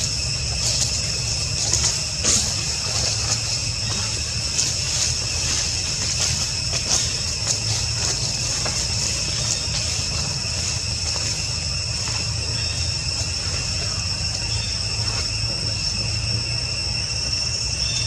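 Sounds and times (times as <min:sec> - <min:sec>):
insect chorus: 0:00.0 - 0:18.0.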